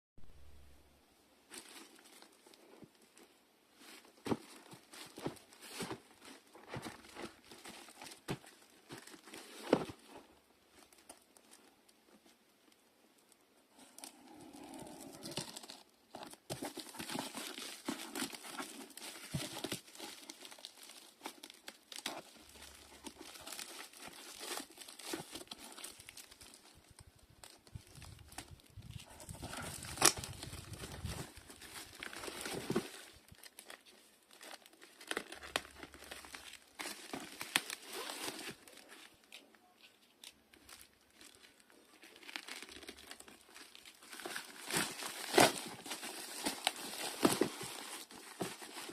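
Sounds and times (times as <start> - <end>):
packaging crinkling and rustling: 1.5 - 12.8, 13.7 - 48.9.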